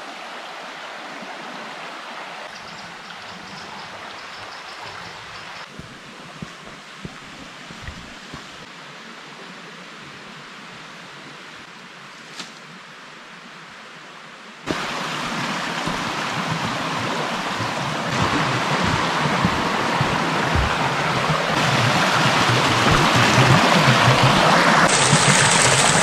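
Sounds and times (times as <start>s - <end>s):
stream rushing over rocks: 0.0s - 10.5s, 14.7s - 26.0s.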